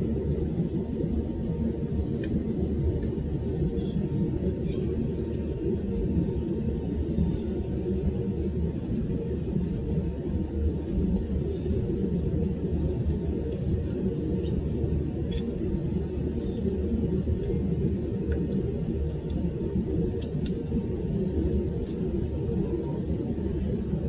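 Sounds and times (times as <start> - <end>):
jet engine rumble in cabin: 0.0 - 24.0.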